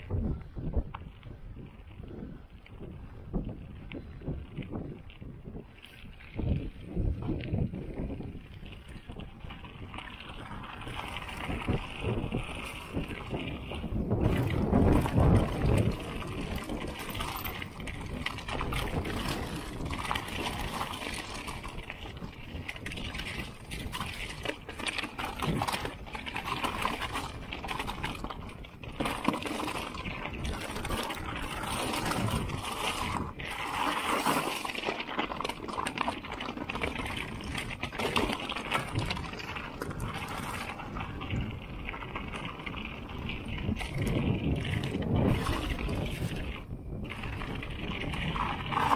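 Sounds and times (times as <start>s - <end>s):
bike rattling: 0.0s - 48.9s
bike tyres crunching over stones: 0.0s - 48.9s
wind buffeting microphone: 0.0s - 48.9s.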